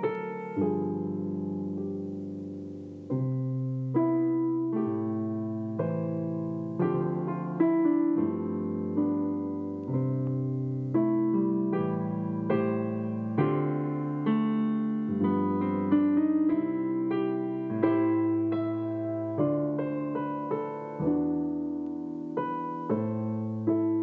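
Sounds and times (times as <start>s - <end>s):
solo piano playing chords: 0.0s - 24.0s.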